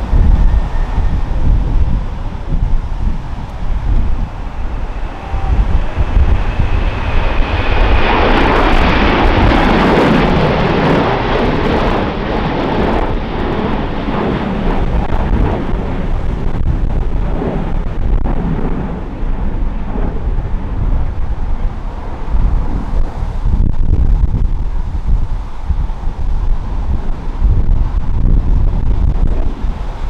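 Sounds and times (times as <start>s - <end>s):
jet engines at high power: 0.0s - 30.0s
wind rumbling on microphone: 0.0s - 30.0s.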